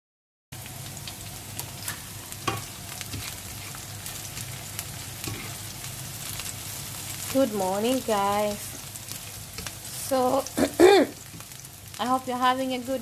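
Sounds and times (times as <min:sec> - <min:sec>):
onions sizzling in oil: 0:00.6 - 0:13.0.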